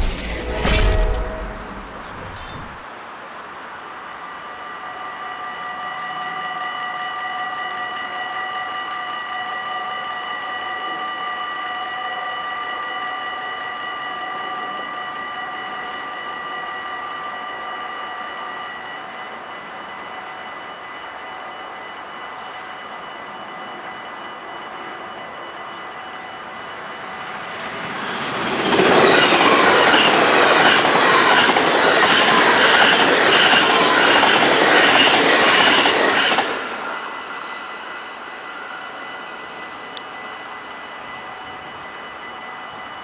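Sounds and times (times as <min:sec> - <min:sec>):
level crossing warning bells: 0:05.2 - 0:43.0.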